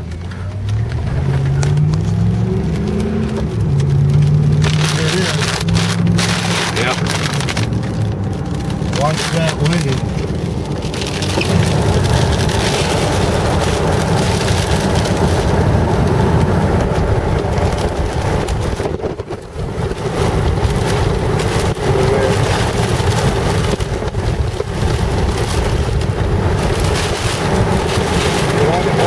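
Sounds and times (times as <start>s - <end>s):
road and engine rumble: 0.0s - 29.0s
wind and rain against car: 0.0s - 29.0s.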